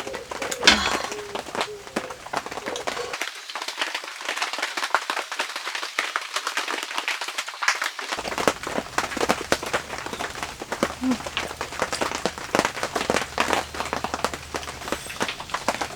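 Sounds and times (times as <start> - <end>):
rain drops ticking: 0.0 - 15.9.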